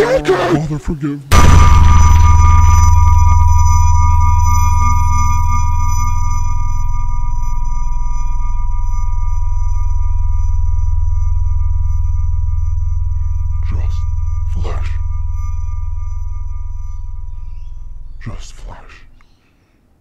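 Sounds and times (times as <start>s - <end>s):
high ringing tones: 1.3s - 18.8s
loud low hum: 1.3s - 19.2s.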